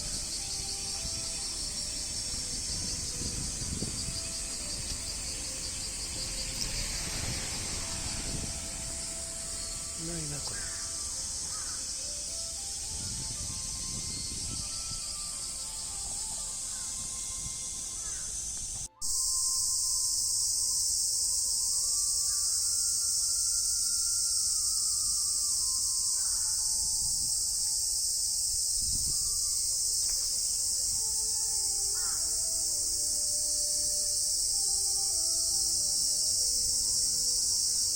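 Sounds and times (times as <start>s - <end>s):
cicadas buzzing in chorus: 0.0s - 37.9s.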